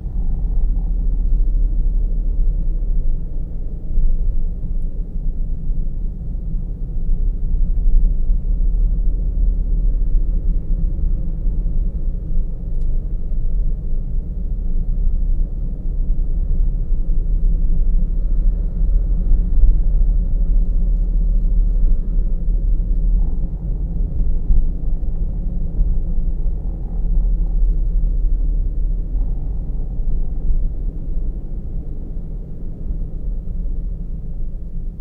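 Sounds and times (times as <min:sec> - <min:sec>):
car interior road and engine rumble: 0:00.0 - 0:35.0.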